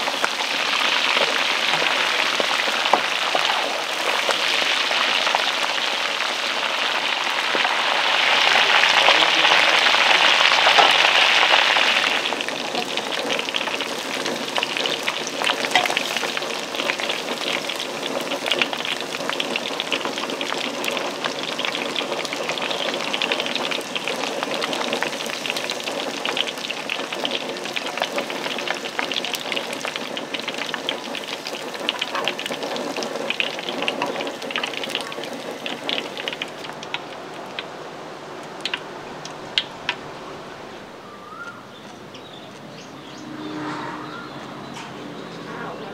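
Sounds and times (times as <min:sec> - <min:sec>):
food deep-frying in oil: 0:00.0 - 0:43.7.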